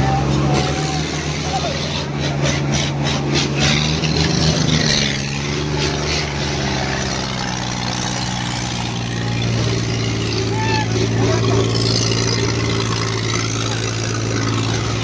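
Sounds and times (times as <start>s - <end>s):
diesel tractor engines revving high: 0.0s - 15.0s.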